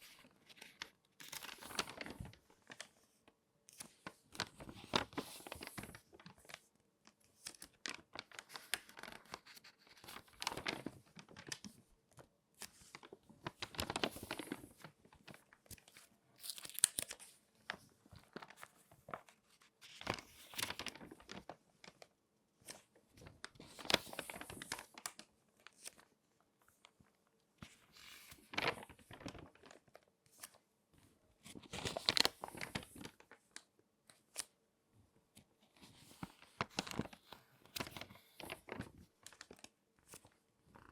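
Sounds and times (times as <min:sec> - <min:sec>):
magazine pages crinkling: 0:00.3 - 0:03.0, 0:03.7 - 0:06.6, 0:07.4 - 0:11.8, 0:12.6 - 0:26.1, 0:27.6 - 0:30.6, 0:31.4 - 0:33.4, 0:35.8 - 0:40.9.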